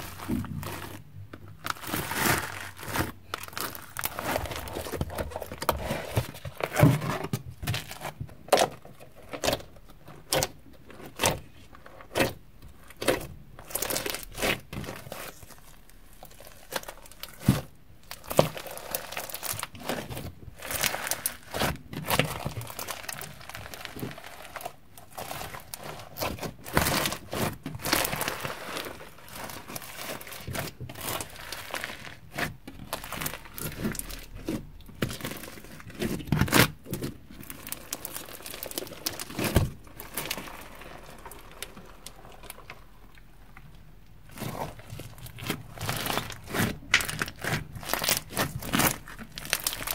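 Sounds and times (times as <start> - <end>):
sticky slime tearing: 0.0 - 43.3, 44.2 - 49.9
slime crackling and popping: 0.0 - 49.9.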